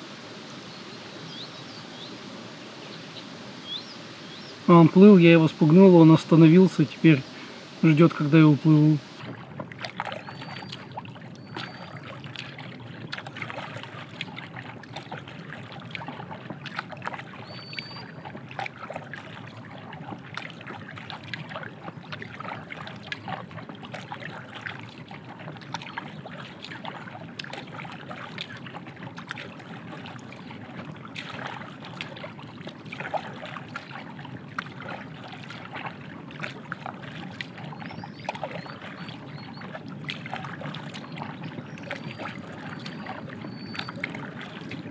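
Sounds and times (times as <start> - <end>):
paddle splashing in water: 0.0 - 44.9
water trickling and dripping: 0.0 - 44.9.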